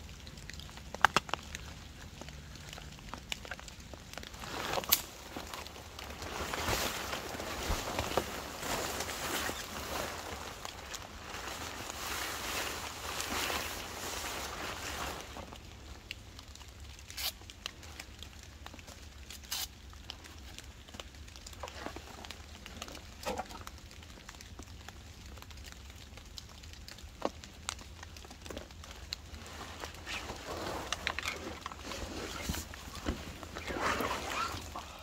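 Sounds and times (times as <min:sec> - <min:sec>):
nylon poncho rustling: 0:00.0 - 0:24.9, 0:26.4 - 0:35.0.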